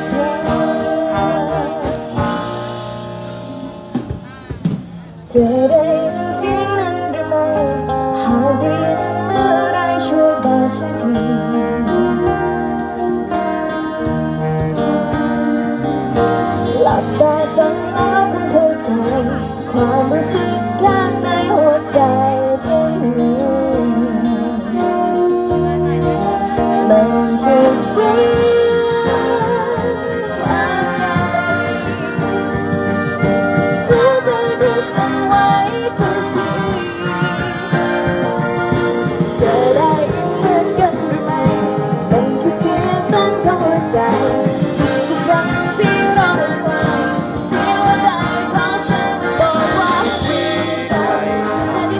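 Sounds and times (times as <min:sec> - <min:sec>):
woman singing into microphone: 0:00.0 - 0:02.8, 0:05.2 - 0:51.9
wind band playing chords: 0:00.0 - 0:51.9.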